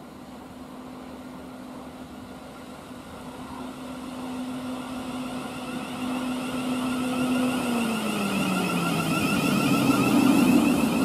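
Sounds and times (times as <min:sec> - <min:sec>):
electric train approaching: 0:00.0 - 0:11.0.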